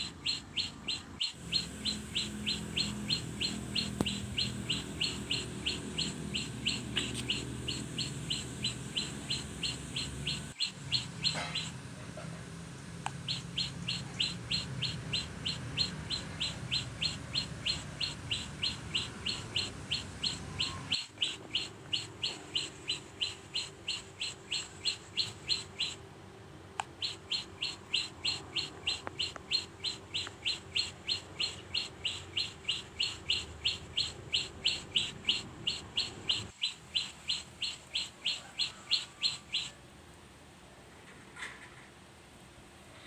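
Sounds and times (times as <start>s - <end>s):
small bird chirping: 0.0s - 12.3s, 13.1s - 26.1s, 26.8s - 39.8s.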